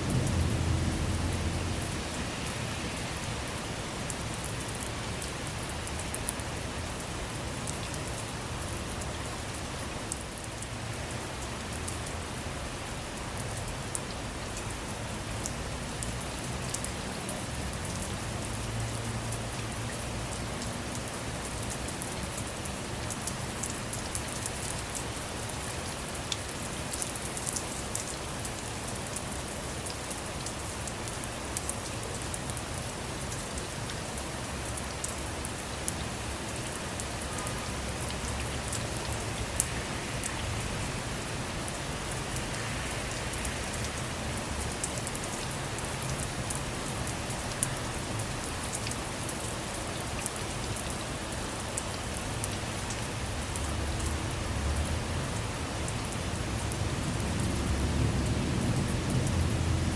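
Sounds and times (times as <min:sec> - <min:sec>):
rain on a car roof: 0:00.0 - 0:59.9.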